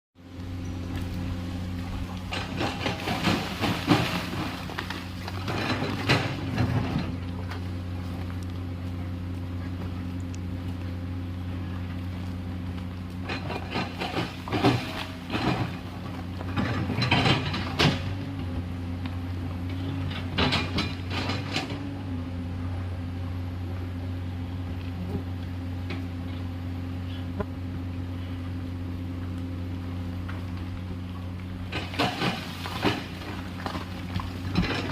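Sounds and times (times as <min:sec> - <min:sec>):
excavator clatter and scraping: 0:00.2 - 0:28.8, 0:29.6 - 0:34.9
excavator diesel engine running: 0:00.2 - 0:34.9.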